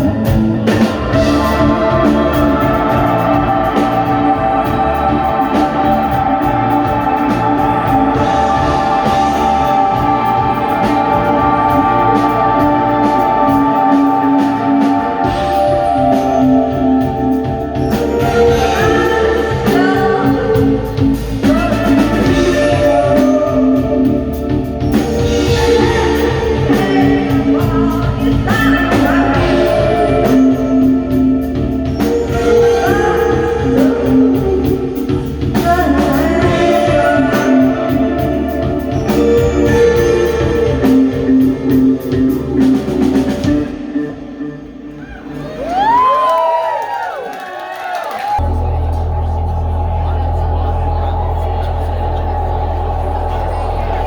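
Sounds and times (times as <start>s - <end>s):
person singing: 0.0s - 45.1s
live band playing: 0.0s - 47.2s.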